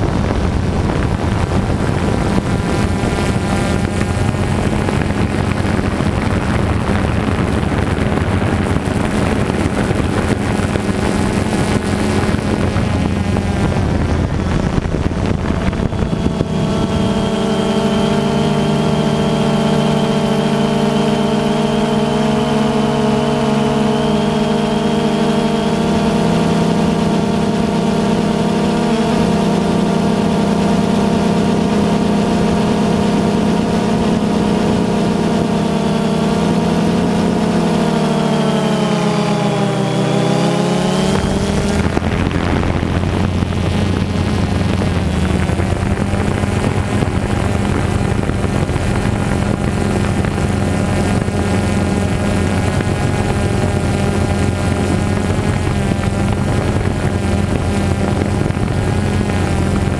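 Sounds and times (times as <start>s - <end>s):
drone motors and propellers: 0.0s - 59.9s.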